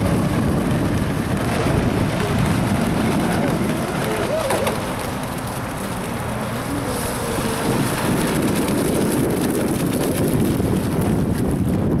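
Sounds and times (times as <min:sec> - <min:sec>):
boat hull and spray noise: 0:00.0 - 0:12.0
wind on microphone: 0:00.0 - 0:12.0.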